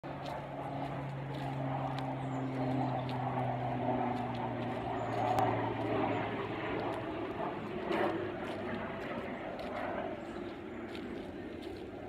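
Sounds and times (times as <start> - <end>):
distant engine droning: 0.0 - 12.0
faint footsteps on trail: 0.0 - 12.0.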